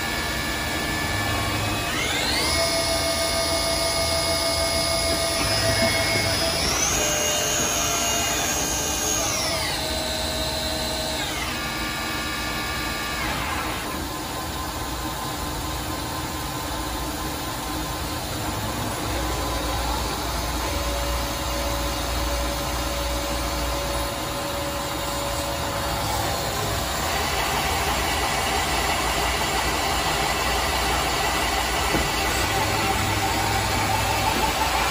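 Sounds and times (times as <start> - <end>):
high spindle whine: 0.0 - 34.9
machine hum: 0.0 - 34.9.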